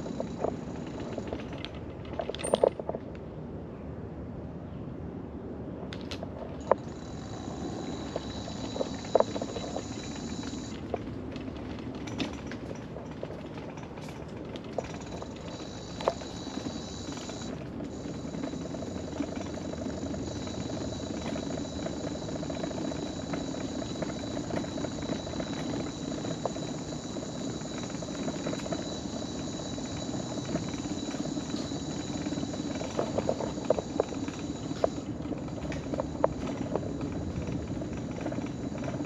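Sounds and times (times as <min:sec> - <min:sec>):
wheels rolling on boardwalk: 0:00.0 - 0:03.4, 0:05.9 - 0:39.0.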